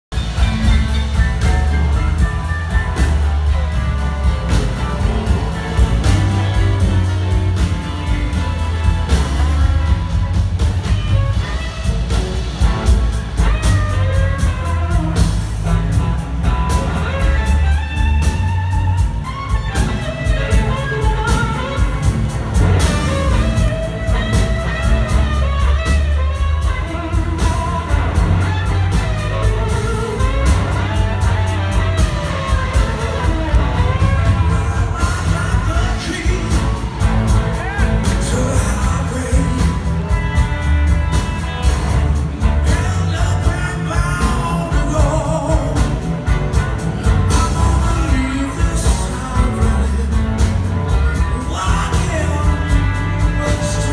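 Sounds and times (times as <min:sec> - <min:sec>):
bass guitar: 0:00.0 - 0:53.9
drum kit: 0:00.0 - 0:53.9
electric guitar lead: 0:00.1 - 0:53.9.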